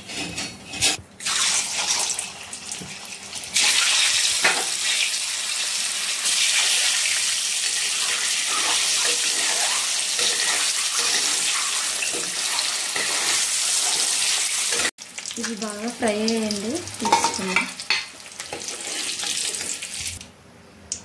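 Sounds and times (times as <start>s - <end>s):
eggs sizzling in hot oil: 1.2s - 20.2s.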